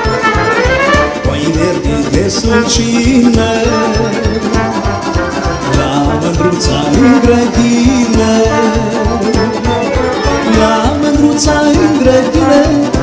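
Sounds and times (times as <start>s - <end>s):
quick steady drum beat: 0.0s - 13.0s
trumpet and brass: 0.0s - 13.0s
man singing into a microphone: 0.8s - 4.9s, 5.6s - 13.0s.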